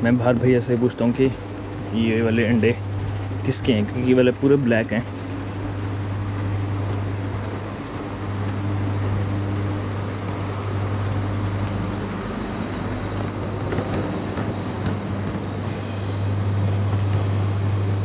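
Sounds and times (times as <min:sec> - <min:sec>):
constant background noise: 0:00.0 - 0:18.0
low machine hum: 0:00.0 - 0:18.0.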